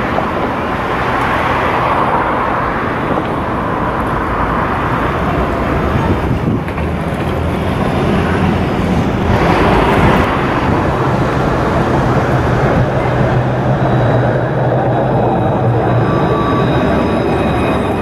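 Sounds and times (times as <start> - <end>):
street noise: 0.0 - 18.0
tram approaching: 0.0 - 18.0.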